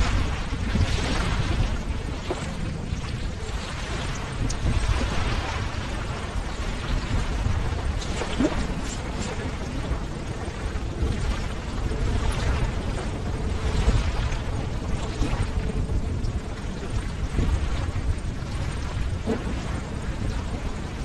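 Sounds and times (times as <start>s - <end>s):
ocean surf washing: 0.0s - 21.0s.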